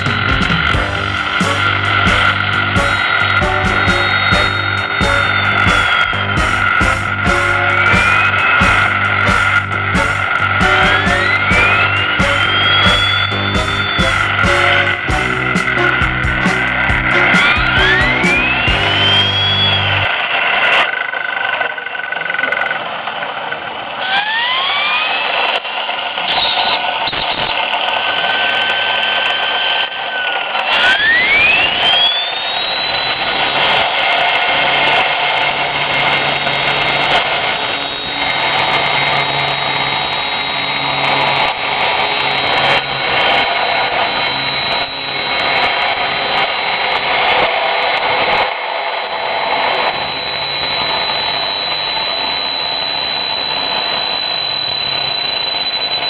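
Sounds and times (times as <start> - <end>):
turbine high whine: 0.0 - 21.4, 23.0 - 56.0.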